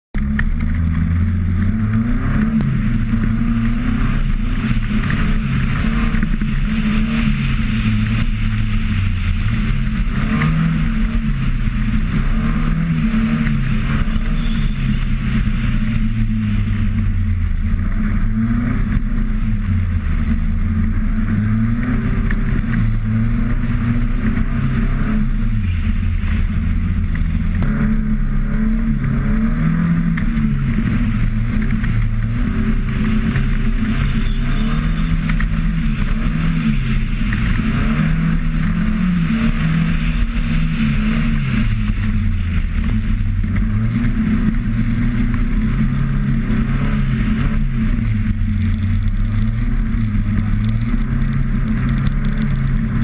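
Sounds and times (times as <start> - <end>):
car engine revving: 0.2 - 53.0.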